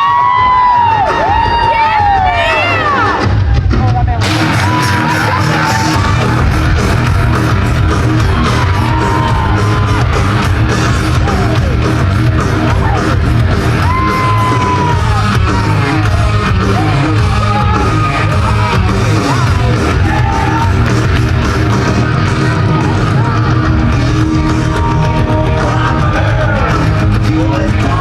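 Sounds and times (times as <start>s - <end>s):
loud rock music: 0.0s - 28.0s
people yelling and shouting: 0.0s - 28.0s.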